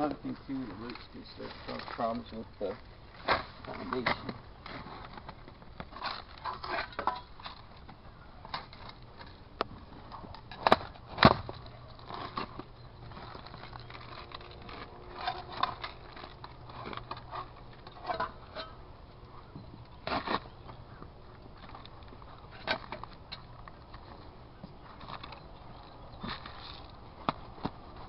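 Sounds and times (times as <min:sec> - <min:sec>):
branches crackling and scraping: 0:00.0 - 0:28.0.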